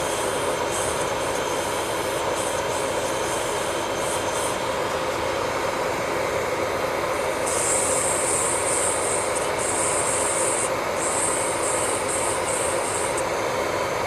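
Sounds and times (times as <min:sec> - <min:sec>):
electric nail drill grinding: 0:00.0 - 0:05.5, 0:07.3 - 0:13.4.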